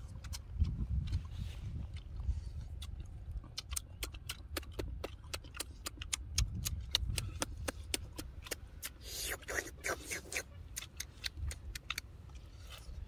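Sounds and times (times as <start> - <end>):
lip-smacking and chewing: 0.0 - 13.0.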